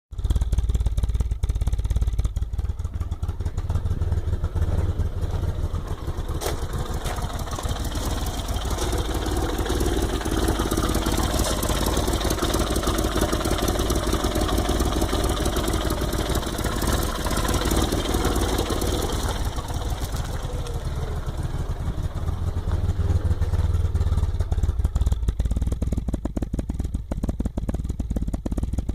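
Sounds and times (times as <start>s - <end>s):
car engine running: 0.1s - 28.9s.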